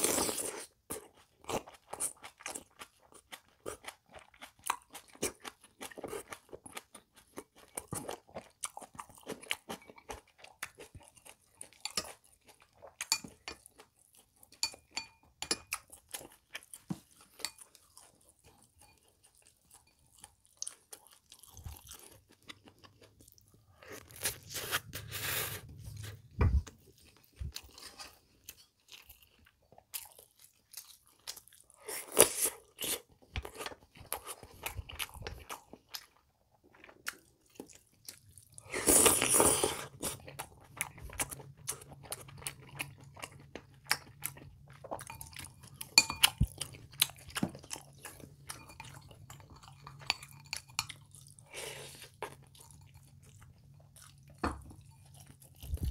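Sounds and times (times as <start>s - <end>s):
chewing with crunching: 0.0s - 55.9s.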